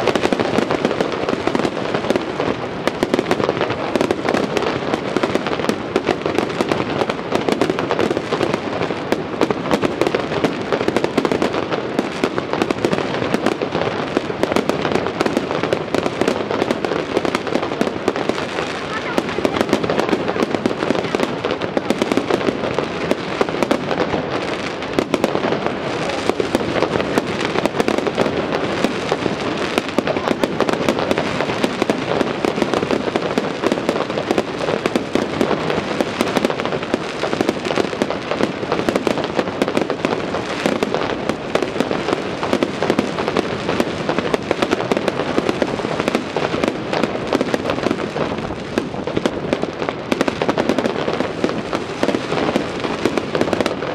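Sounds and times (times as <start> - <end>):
aerial fireworks bangs and crackle: 0.0 - 53.9.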